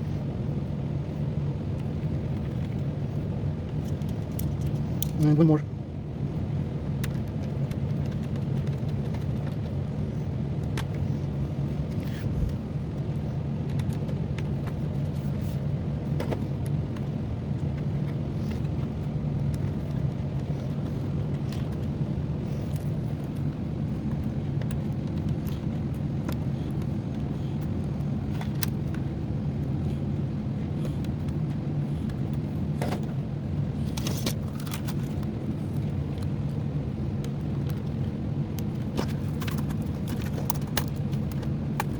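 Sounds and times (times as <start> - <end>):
low hum: 0.0 - 41.9.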